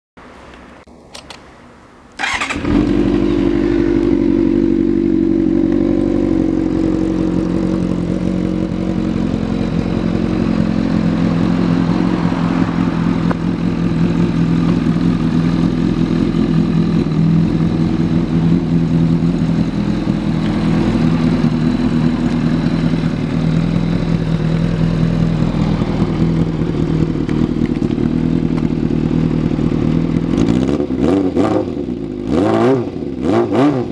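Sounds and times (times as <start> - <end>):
motorcycle engine starting and idling: 1.0 - 33.2.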